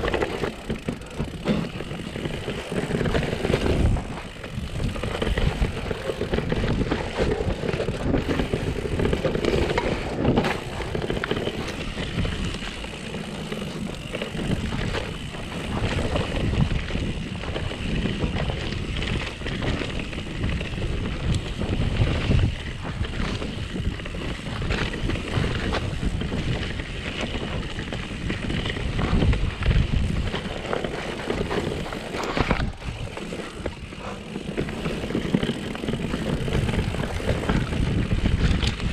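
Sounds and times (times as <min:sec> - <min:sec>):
tyres rumbling over dirt: 0:00.0 - 0:21.0, 0:21.7 - 0:38.9
bike rattling over bumps: 0:00.0 - 0:38.9
wind buffeting microphone: 0:00.0 - 0:38.9.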